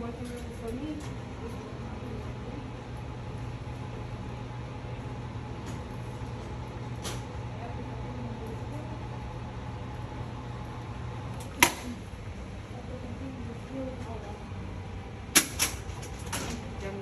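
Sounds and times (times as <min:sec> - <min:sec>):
hospital bed motor humming: 0:00.0 - 0:17.0.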